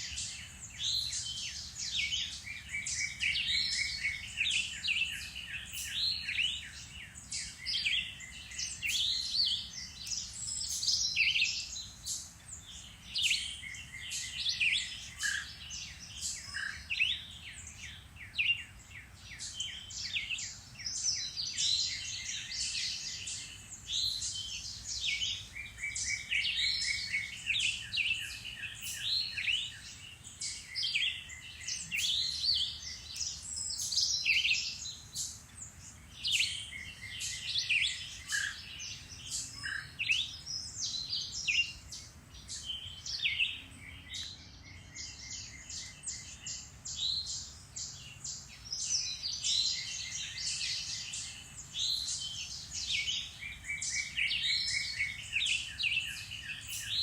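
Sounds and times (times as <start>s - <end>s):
birds singing chorus: 0.0s - 57.0s.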